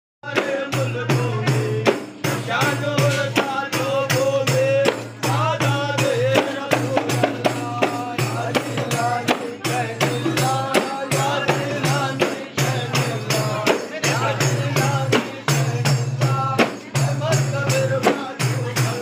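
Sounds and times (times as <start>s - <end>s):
frame drums beaten in rhythm: 0.2s - 19.0s
men singing together: 0.2s - 19.0s.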